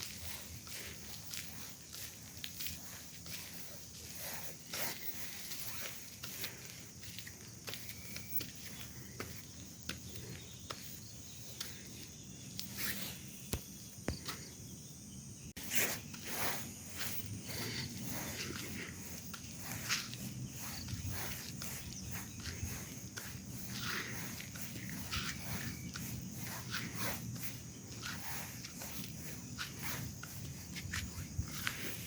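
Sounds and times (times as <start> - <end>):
rustles: 0.0 - 14.6, 15.6 - 32.0
high-pitched insect drone: 0.0 - 32.0.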